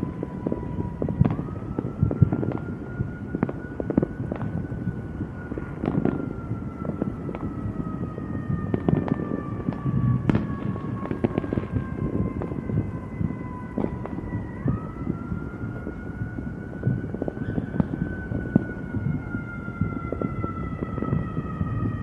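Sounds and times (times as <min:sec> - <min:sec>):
emergency vehicle siren wailing: 0:00.0 - 0:22.0
street noise: 0:00.0 - 0:22.0.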